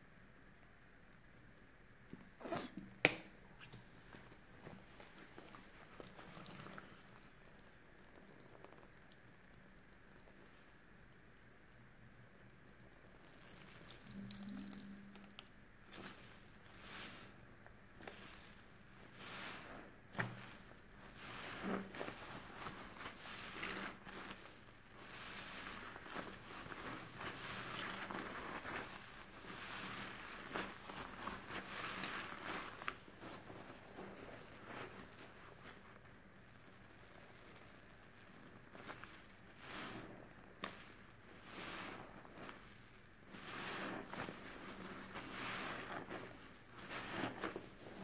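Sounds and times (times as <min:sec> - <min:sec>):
wet sponge squishing: 0:03.6 - 0:10.8, 0:12.4 - 0:48.0.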